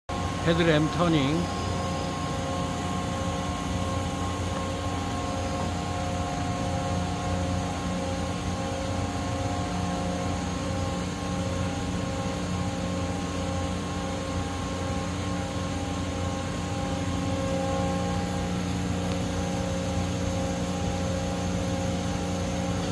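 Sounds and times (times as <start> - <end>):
machine humming with tones: 0.1 - 22.9.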